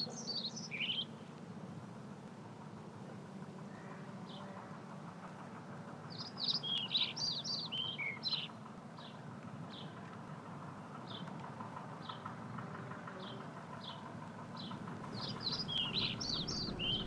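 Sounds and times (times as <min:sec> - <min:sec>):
low background noise: 0:00.0 - 0:17.0
songbird chirping: 0:00.0 - 0:17.0.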